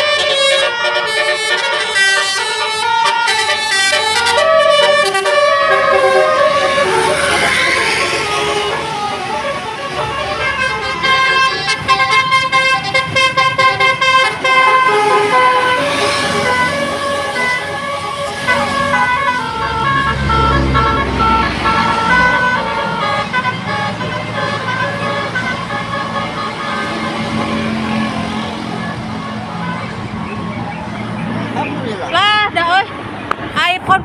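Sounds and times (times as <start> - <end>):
bus horns playing tunes: 0.0 - 30.6
bus engine rumble: 0.0 - 34.0.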